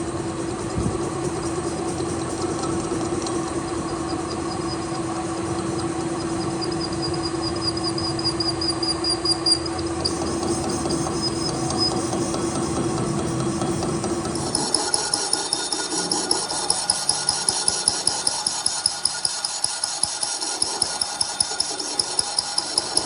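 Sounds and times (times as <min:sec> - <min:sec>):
machine humming: 0:00.0 - 0:23.0
thin high whine: 0:00.0 - 0:23.0.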